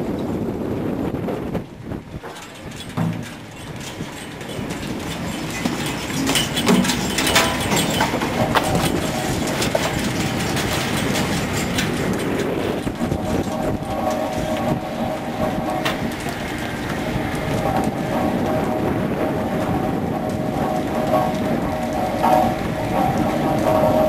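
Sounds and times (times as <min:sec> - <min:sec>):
hydraulic line haulers rattling: 0:01.8 - 0:24.0
steady machine whine: 0:02.2 - 0:24.0.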